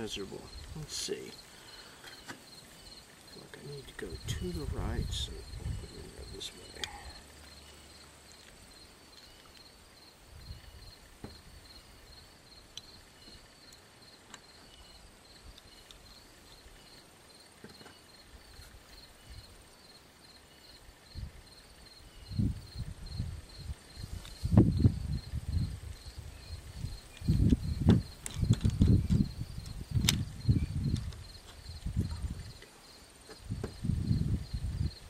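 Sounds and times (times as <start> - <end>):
pulsing high insect-like chirp: 0.0 - 35.0.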